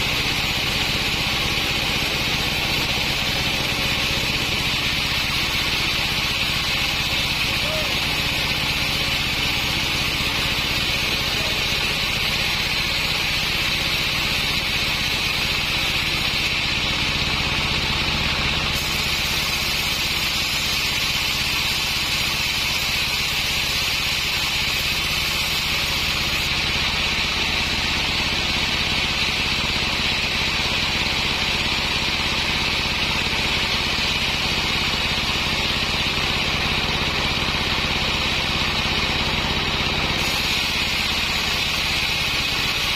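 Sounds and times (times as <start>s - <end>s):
saw hissing: 0.0s - 37.5s, 38.3s - 42.9s
engine droning: 0.0s - 42.9s.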